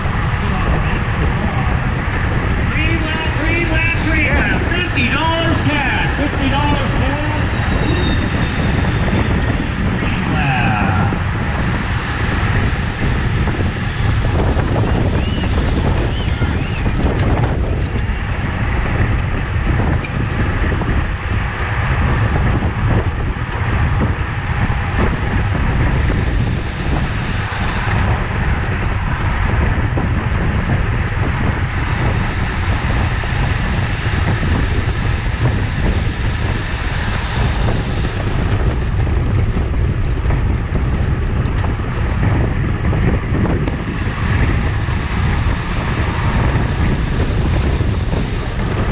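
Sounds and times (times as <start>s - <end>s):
tyre and road noise: 0.0s - 48.9s
wind rushing over microphone: 0.0s - 48.9s.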